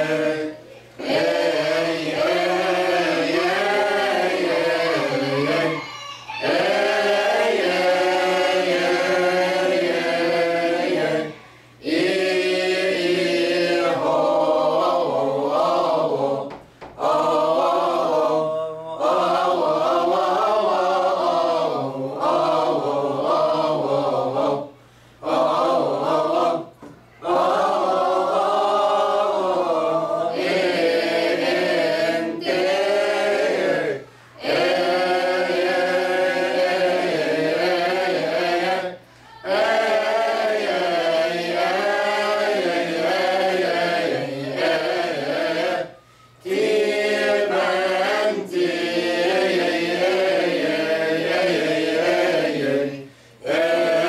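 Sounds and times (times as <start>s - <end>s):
group chanting a hymn: 0.0s - 54.0s.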